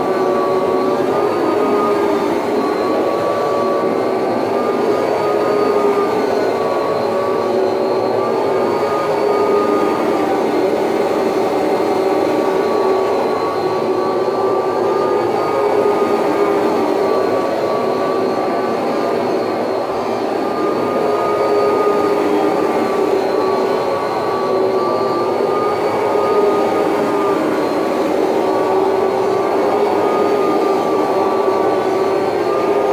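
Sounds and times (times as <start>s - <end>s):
vacuum cleaner motor whine: 0.0s - 32.9s.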